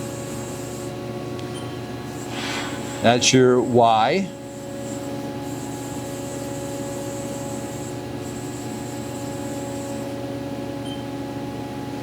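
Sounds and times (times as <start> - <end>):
high machine whine: 0.0 - 12.0
machine hum: 0.0 - 12.0.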